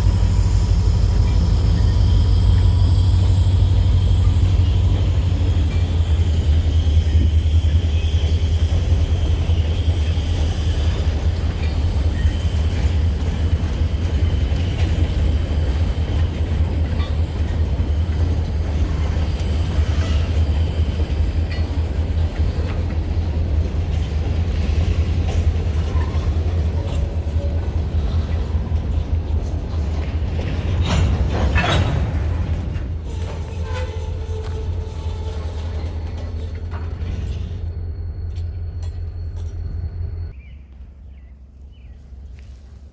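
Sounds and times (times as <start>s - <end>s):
diesel locomotive rumble: 0.0s - 42.9s.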